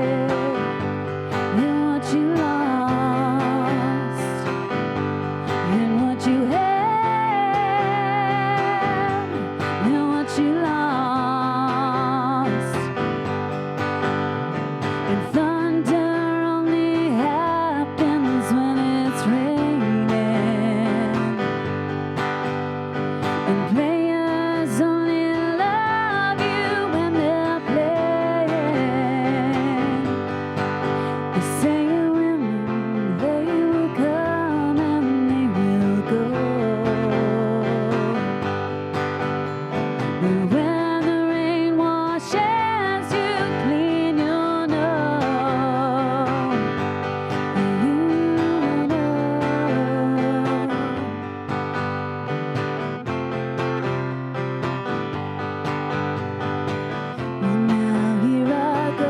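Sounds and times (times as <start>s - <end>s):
woman singing: 0.0s - 53.0s, 55.2s - 59.0s
strummed acoustic guitar: 0.0s - 59.0s.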